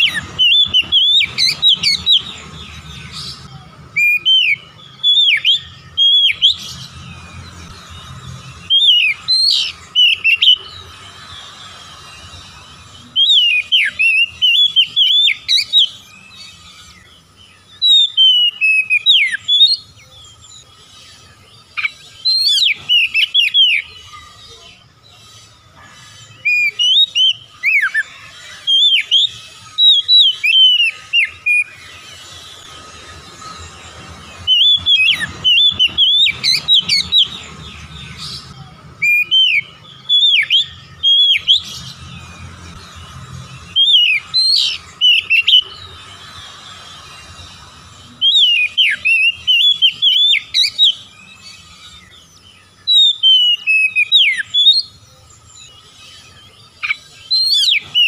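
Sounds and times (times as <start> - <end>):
bird singing whistled notes: 0.0 - 58.0.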